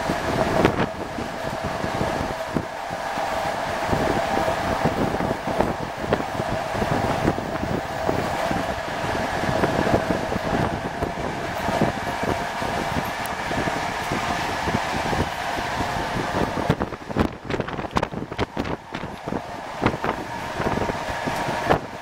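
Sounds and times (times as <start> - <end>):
rush of wind: 0.0 - 22.0
train wheels running on rails: 0.0 - 22.0.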